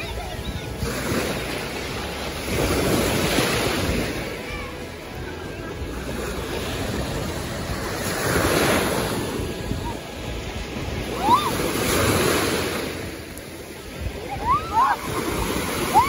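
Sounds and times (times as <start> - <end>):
small waves washing on shore: 0.0 - 16.0.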